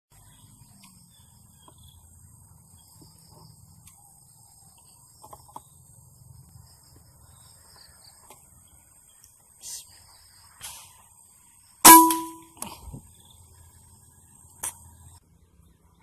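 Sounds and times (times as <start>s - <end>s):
insects chirring: 0.1s - 15.2s.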